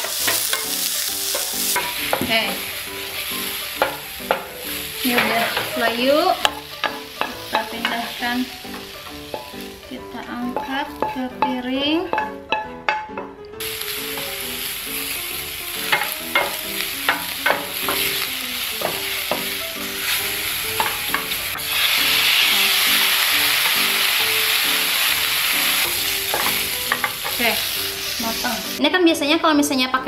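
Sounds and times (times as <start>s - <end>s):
food sizzling in frying pan: 0.0s - 28.8s.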